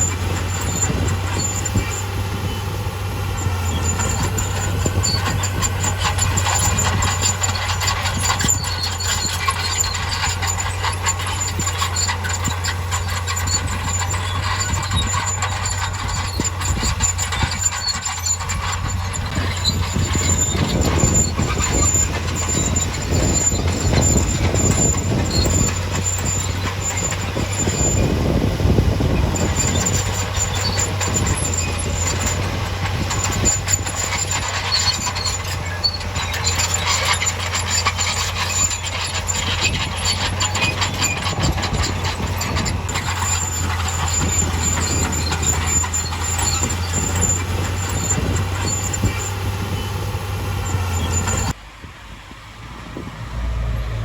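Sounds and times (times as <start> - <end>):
thin high squeal: 0.0 - 51.6
diesel machinery engine running: 0.0 - 54.0
rough rumbling: 0.0 - 54.0.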